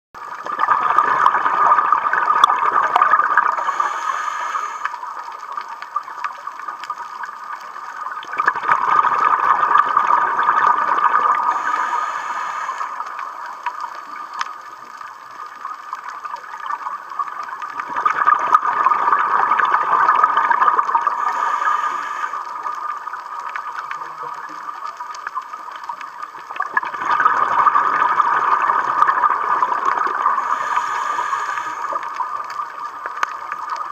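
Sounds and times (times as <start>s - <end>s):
underwater breathing bubbles: 0.3s - 33.9s.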